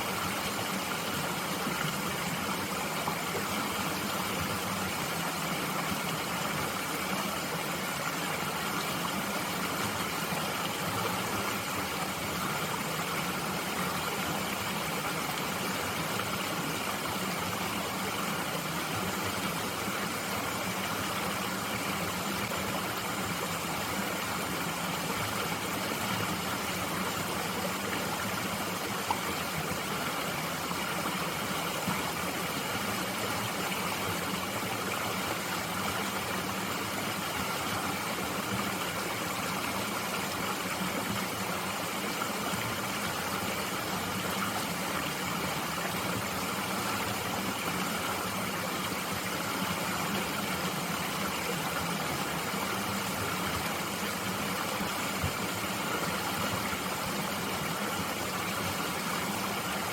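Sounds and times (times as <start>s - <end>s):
mountain stream flowing: 0.0s - 59.9s.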